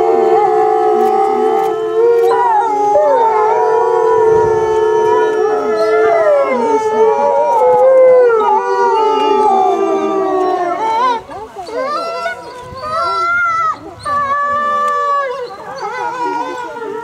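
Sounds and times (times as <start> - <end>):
wolves howling in chorus: 0.0 - 17.0.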